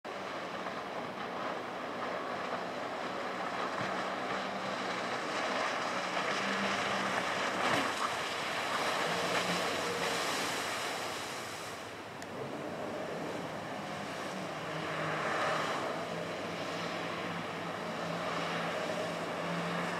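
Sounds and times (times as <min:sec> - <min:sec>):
faint boat engine hum: 0:00.0 - 0:19.9
speedboat wake rushing: 0:00.1 - 0:19.9.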